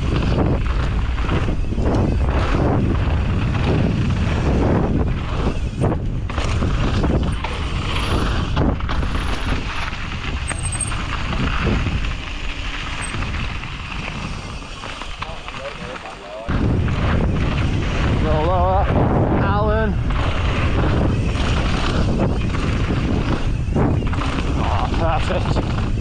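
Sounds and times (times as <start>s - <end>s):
bike knocking and rattling: 0.0s - 26.0s
bike tyre rumble on dirt: 0.0s - 26.0s
wind buffeting microphone: 0.0s - 26.0s.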